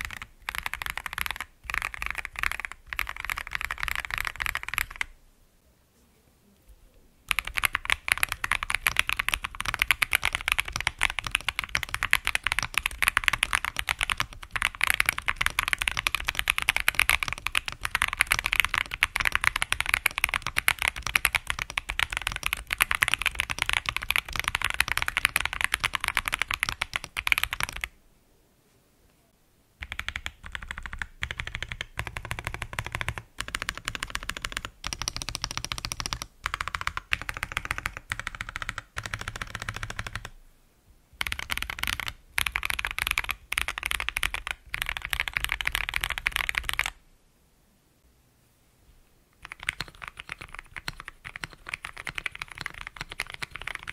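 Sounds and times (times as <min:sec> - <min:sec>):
mechanical keyboard typing: 0:00.0 - 0:05.2, 0:07.3 - 0:27.9, 0:29.8 - 0:40.4, 0:41.2 - 0:47.0, 0:49.4 - 0:53.9.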